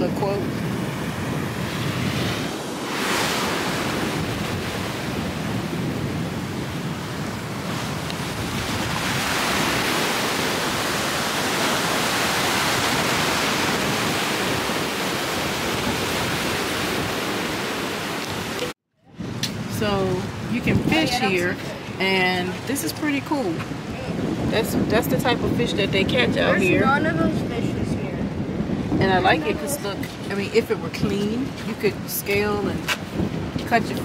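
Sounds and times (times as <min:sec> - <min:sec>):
ocean surf breaking: 0:00.0 - 0:34.0
wind on microphone: 0:00.0 - 0:34.0.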